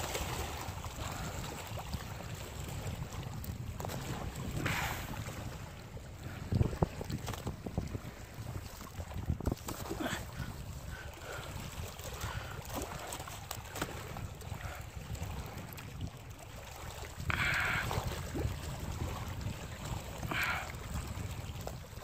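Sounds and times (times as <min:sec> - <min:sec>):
water gurgling and trickling: 0:00.0 - 0:22.0
water splashes: 0:00.0 - 0:22.0
wind rumbling on microphone: 0:00.0 - 0:22.0.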